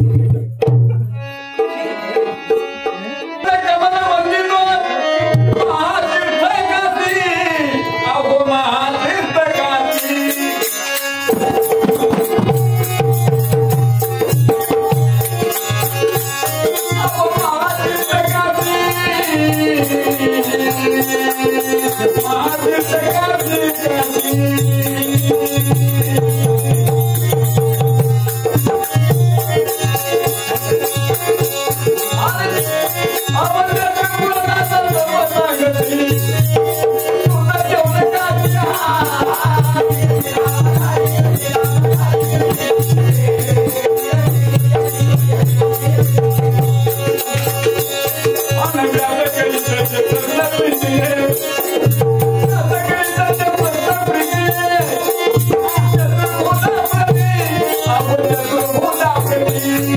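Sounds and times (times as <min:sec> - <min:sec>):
hand drum rhythm: 0:00.0 - 0:03.1, 0:10.4 - 0:59.9.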